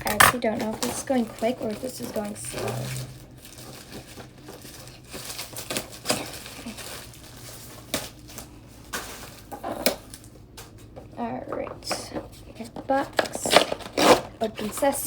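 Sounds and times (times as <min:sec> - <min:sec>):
plastic and cardboard crinkling: 0:00.0 - 0:15.0.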